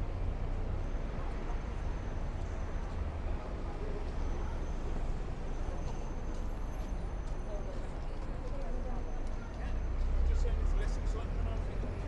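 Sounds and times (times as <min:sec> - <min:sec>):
low rumble of traffic: 0:00.0 - 0:12.0
indistinct voices of passers-by: 0:00.5 - 0:12.0.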